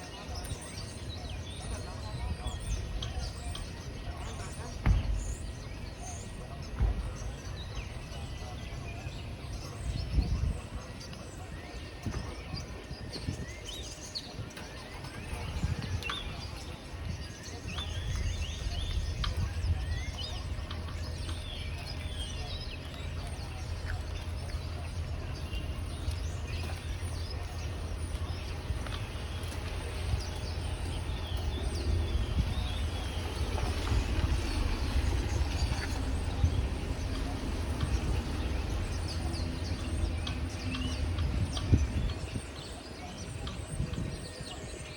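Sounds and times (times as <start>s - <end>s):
small birds chirping: 0.0s - 44.9s
steady low rumble: 0.0s - 44.9s.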